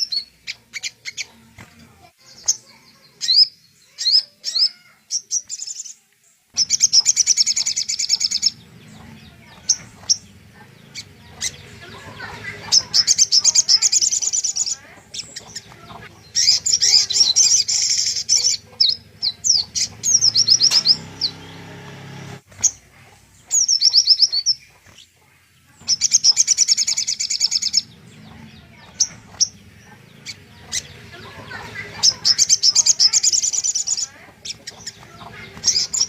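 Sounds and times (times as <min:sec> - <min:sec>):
songbird singing trills: 0:02.2 - 0:36.0.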